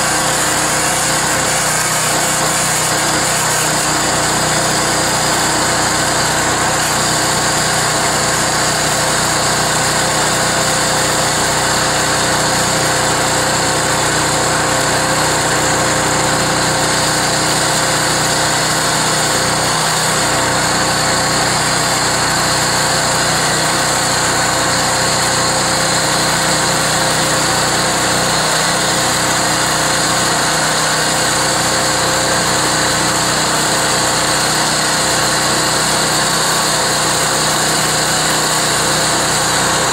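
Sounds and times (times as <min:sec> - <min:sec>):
gasoline engine running: 0:00.0 - 0:39.9.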